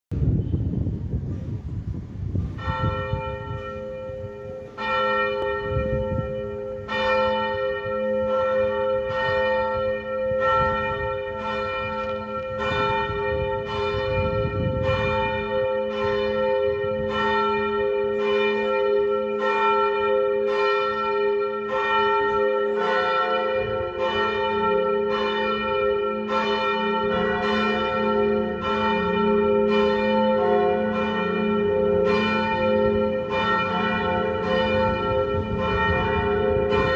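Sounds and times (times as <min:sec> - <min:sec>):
church bells ringing: 0:02.6 - 0:36.9.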